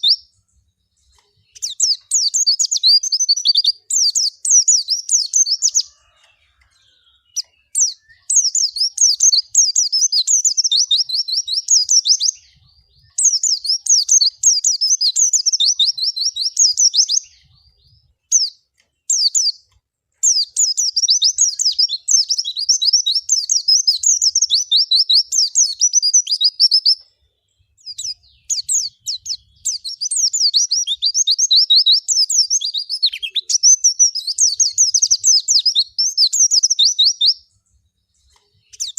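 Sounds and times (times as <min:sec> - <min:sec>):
bird twittering: 0:00.0 - 0:27.0, 0:27.6 - 0:37.6, 0:38.2 - 0:38.9.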